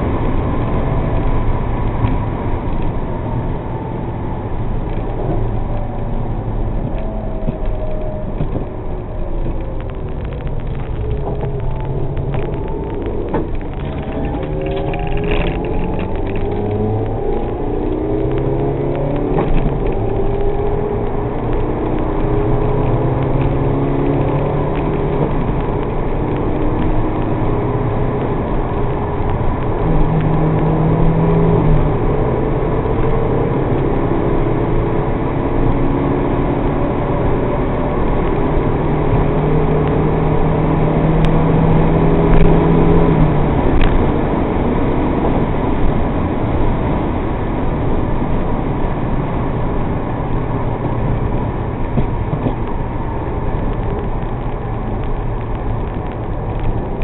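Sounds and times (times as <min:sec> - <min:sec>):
car engine at speed: 0:00.0 - 0:57.0
wind and road noise: 0:00.0 - 0:57.0.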